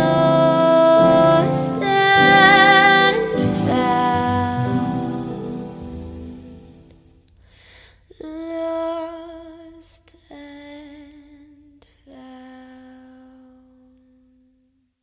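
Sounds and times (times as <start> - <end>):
woman singing with vibrato: 0.0 - 6.7, 8.1 - 14.2.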